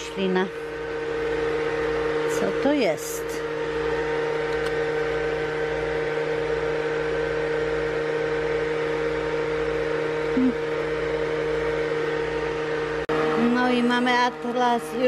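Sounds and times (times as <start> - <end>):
ventilation fan humming: 0.0 - 15.0.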